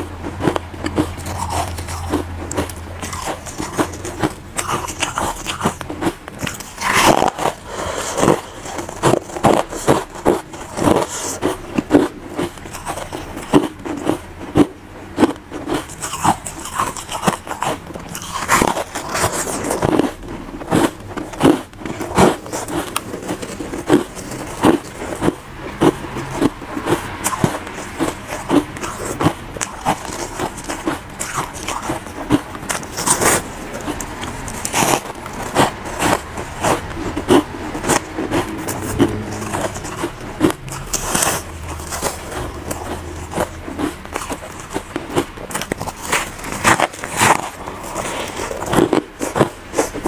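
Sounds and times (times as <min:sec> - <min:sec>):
crunchy ice being chewed: 0:00.0 - 0:50.0.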